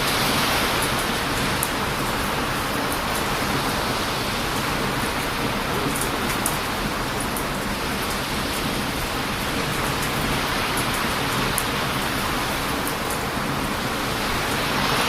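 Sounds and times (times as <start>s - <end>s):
ocean surf washing onto beach: 0.0s - 15.0s.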